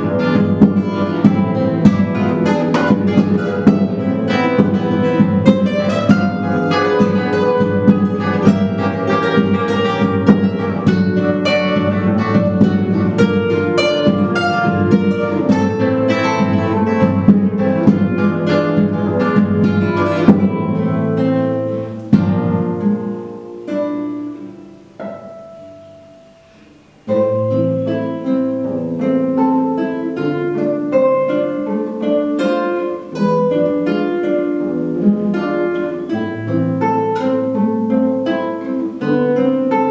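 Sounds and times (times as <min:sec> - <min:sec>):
acoustic guitars plucking: 0:00.0 - 0:39.9.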